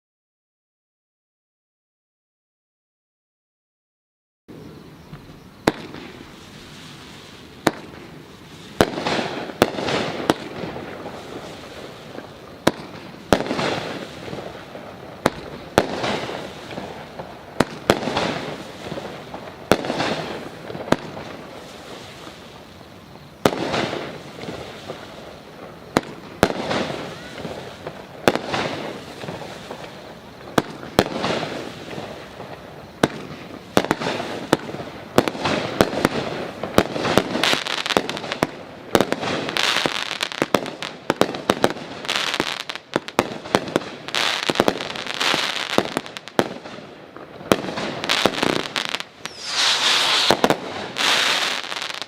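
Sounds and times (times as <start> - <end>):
firework hiss: 4.5 - 52.0
firework sharp reports: 4.5 - 52.0.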